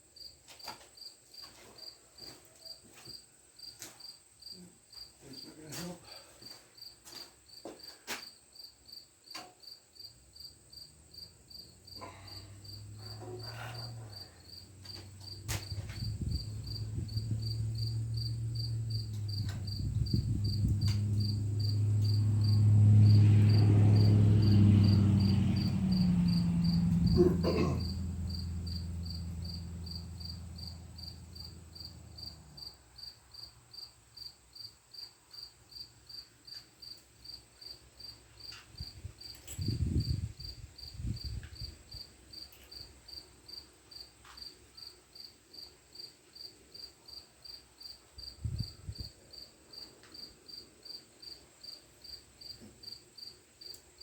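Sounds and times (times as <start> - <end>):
cricket-like chirping: 0.1 - 54.0.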